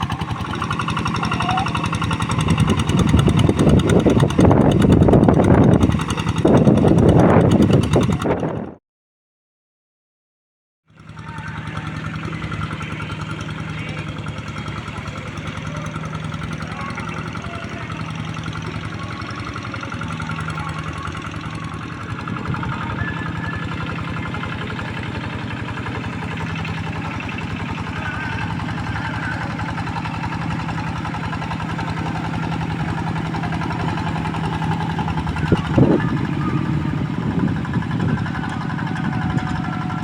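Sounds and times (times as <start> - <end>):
hand tractor engine running: 0.0 - 8.6, 11.0 - 40.0.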